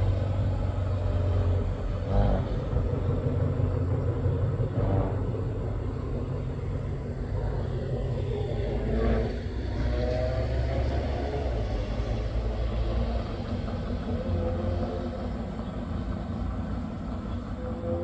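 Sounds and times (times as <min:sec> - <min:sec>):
distant diesel locomotive rumble: 0:00.0 - 0:18.0.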